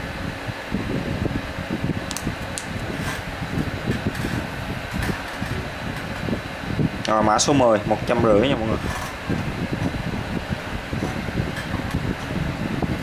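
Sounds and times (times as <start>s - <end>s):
air buffeting microphone: 0.0s - 13.0s
electric fan noise: 0.0s - 13.0s.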